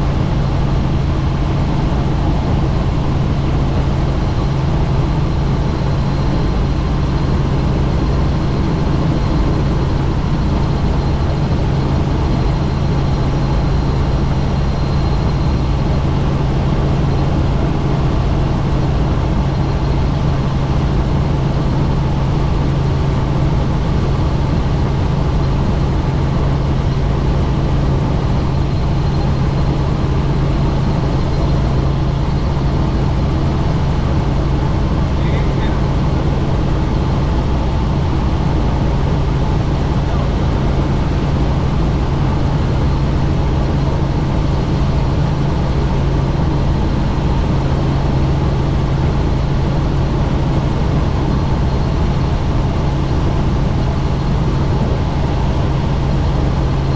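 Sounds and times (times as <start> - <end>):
faint high whine: 0.0 - 56.9
helicopter rotor and engine drone: 0.0 - 56.9.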